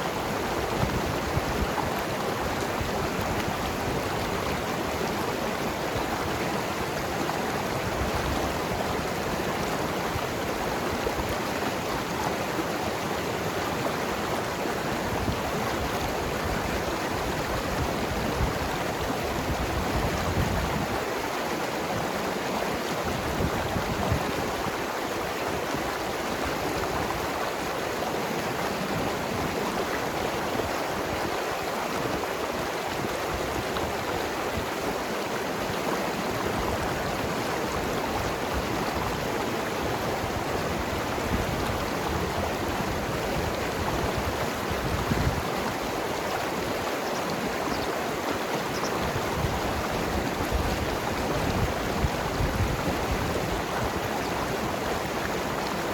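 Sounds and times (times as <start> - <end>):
river flowing over rocks: 0.0 - 55.9.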